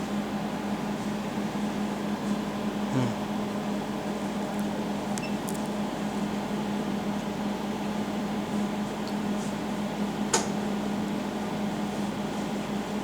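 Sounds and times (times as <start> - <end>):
cooling unit humming: 0.0 - 13.0.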